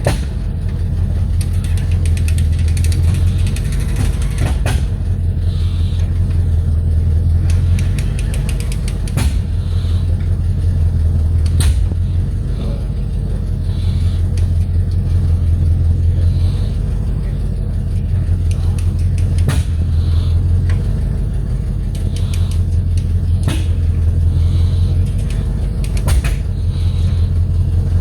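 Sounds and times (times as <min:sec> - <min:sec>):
sharp clicks: 0:00.0 - 0:12.6, 0:13.4 - 0:28.0
engine droning: 0:00.0 - 0:28.0.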